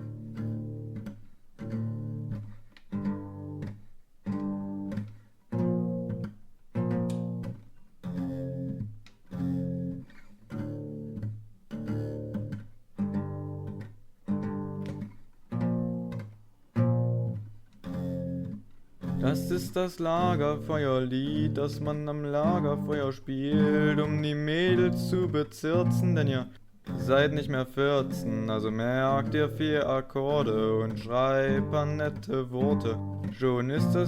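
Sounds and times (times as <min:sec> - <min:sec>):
guitar chords strummed: 0:00.0 - 0:34.0.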